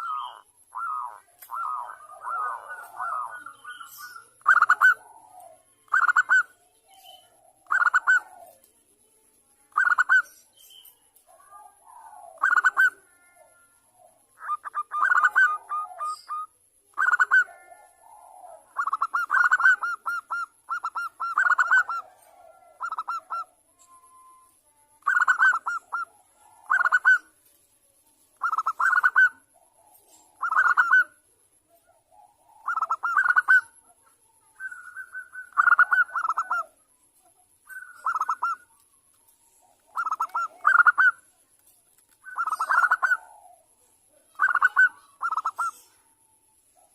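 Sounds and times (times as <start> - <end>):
dove cooing: 0.0 - 8.7, 9.7 - 10.3, 11.2 - 27.4, 28.4 - 36.8, 37.4 - 38.8, 39.4 - 41.4, 42.2 - 46.9.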